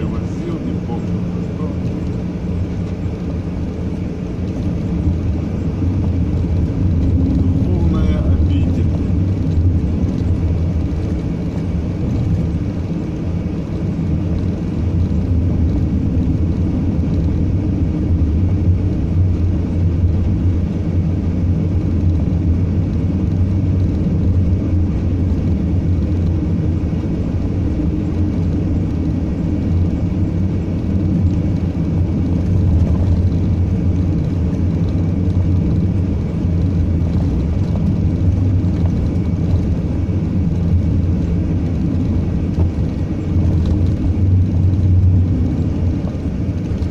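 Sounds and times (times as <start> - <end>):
road noise: 0.0 - 46.9
vehicle engine rumble: 0.0 - 46.9.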